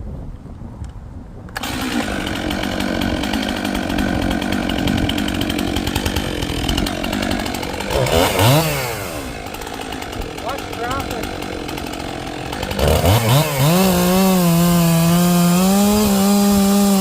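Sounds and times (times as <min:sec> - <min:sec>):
chainsaw cutting into tree: 0:01.6 - 0:17.0.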